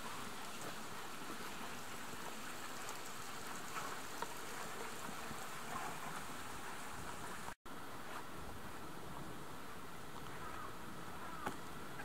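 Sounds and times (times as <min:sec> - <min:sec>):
water hissing outdoors: 0:00.0 - 0:12.0.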